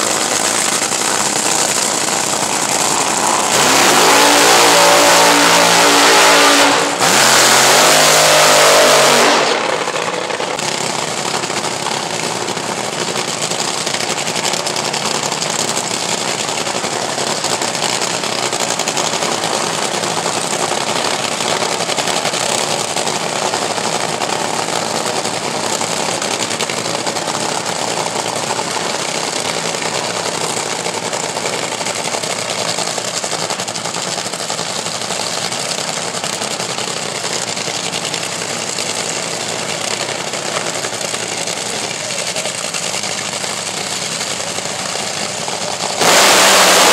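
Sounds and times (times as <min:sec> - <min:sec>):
dragster engines revving: 0:00.0 - 0:46.9
engine crackling idle: 0:00.0 - 0:46.9.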